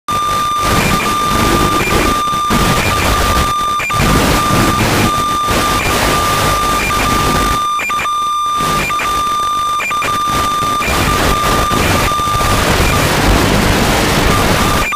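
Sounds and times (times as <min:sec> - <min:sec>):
constant high whine: 0:00.1 - 0:14.9
radio static hiss: 0:00.1 - 0:14.9.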